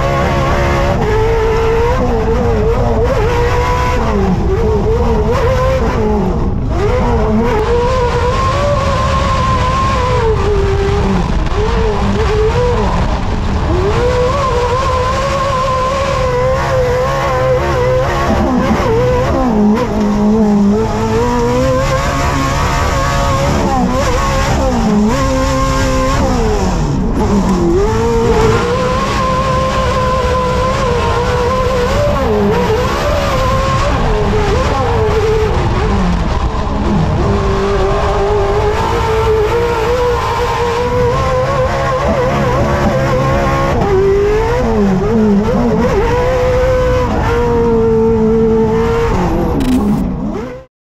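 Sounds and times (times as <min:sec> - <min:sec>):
race truck engine revving: 0:00.0 - 0:50.7.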